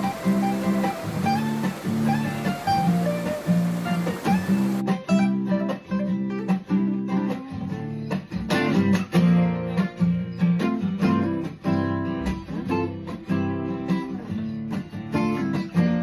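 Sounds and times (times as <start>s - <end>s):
guitar plucked and strummed: 0.0s - 16.0s.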